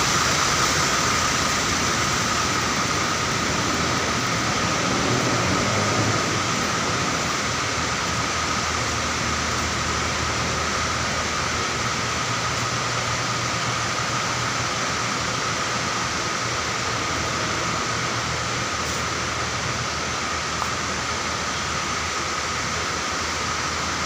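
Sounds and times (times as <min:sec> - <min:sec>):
bus engines idling: 0:00.0 - 0:24.0.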